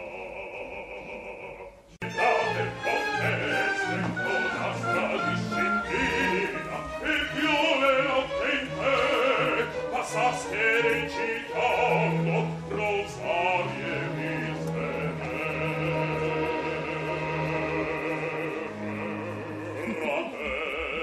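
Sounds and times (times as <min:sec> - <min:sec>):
bass soloist singing opera: 0:00.0 - 0:21.0
chorus singing with vibrato: 0:00.0 - 0:21.0
orchestral accompaniment: 0:02.0 - 0:20.7.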